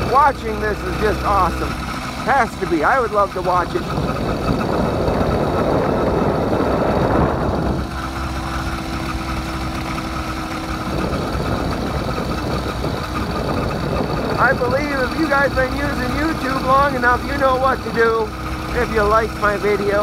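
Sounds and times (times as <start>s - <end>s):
small gas engine running: 0.0s - 20.0s.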